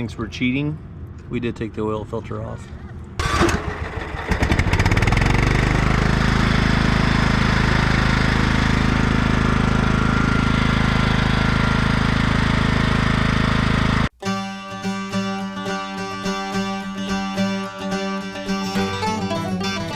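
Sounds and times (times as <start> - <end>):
lawn tractor engine running: 3.2 - 19.9.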